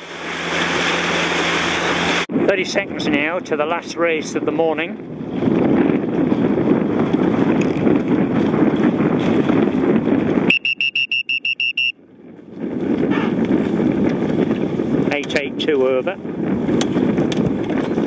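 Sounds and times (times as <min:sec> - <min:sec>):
wind and water rushing: 0:00.0 - 0:18.0.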